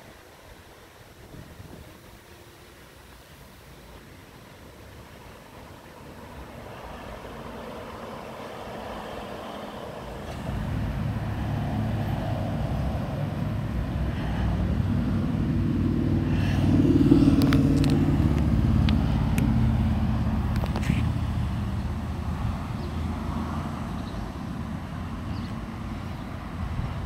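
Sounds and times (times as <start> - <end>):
vehicle engine rumbling: 3.7 - 27.0.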